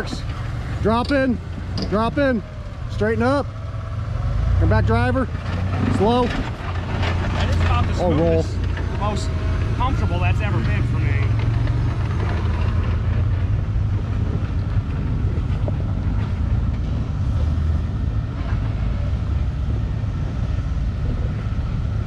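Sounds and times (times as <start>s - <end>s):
vehicle engines rumbling: 0.0s - 22.0s.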